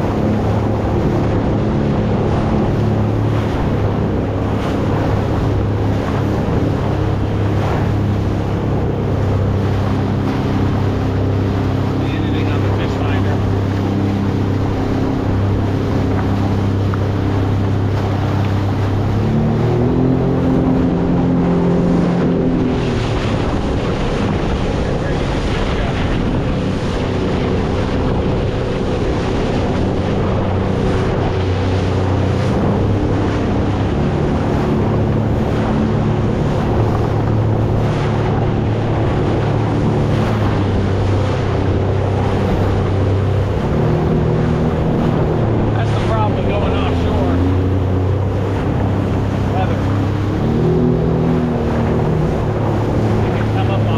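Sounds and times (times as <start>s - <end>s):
motorboat engine running: 0.0s - 53.9s
water rushing: 0.0s - 53.9s
wind buffeting microphone: 0.0s - 53.9s.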